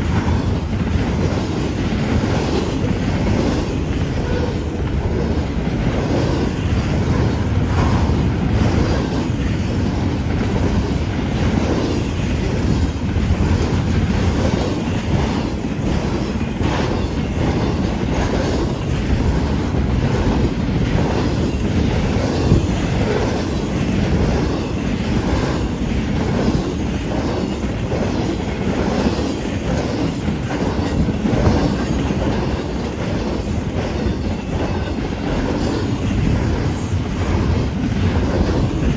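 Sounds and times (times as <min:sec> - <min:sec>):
train rumbling past: 0:00.0 - 0:38.9
wheels clicking over rail joints: 0:00.0 - 0:38.9.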